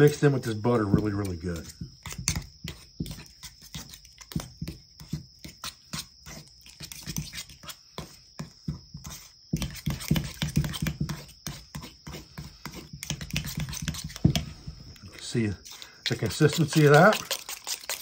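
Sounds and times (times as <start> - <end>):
metal spoon scraping butter in cup: 0.0 - 8.2, 9.1 - 18.0.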